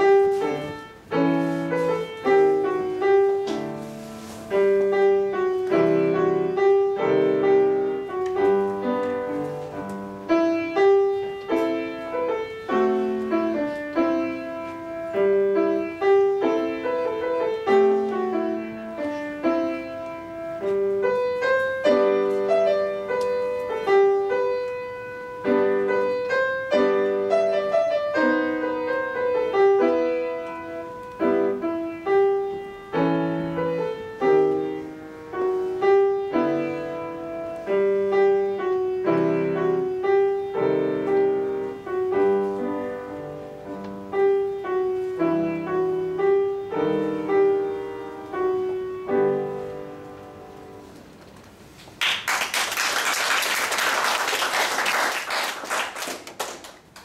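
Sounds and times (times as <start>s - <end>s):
solo classical piano piece: 0.0s - 52.0s.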